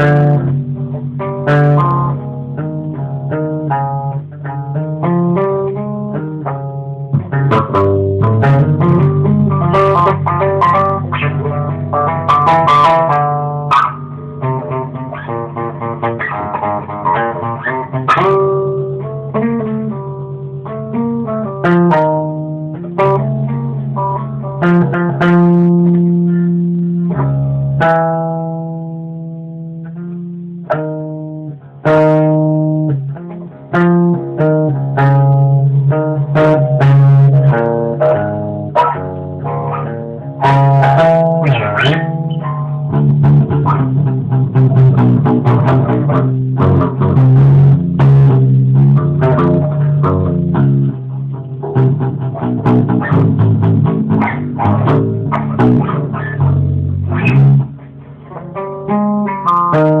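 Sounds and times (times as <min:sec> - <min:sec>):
electric bass guitar notes: 0:00.0 - 1:00.0.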